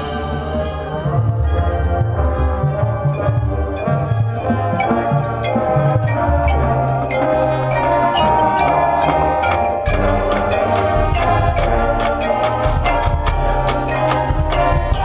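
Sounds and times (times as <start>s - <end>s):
mallet percussion striking quick notes: 0.0s - 15.0s
marching band playing: 0.0s - 15.0s.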